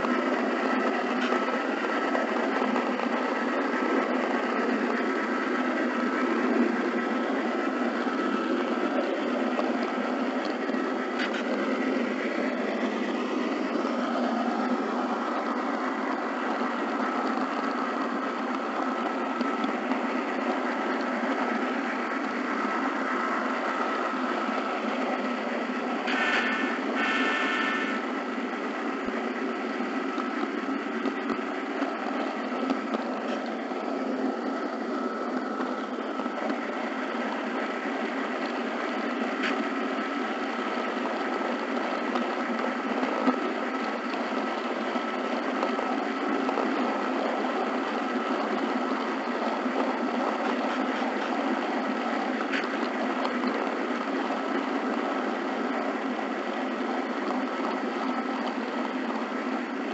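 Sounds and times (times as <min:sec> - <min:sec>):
model train whirring and rattling: 0:00.0 - 0:59.9.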